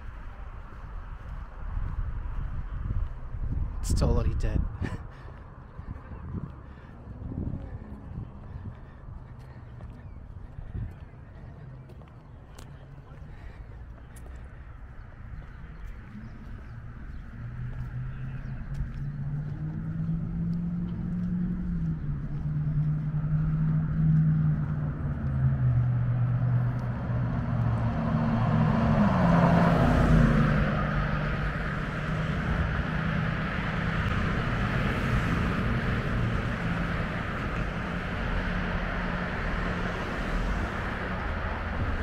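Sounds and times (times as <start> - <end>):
street traffic: 0.0 - 42.0
vehicle passing close: 5.0 - 42.0.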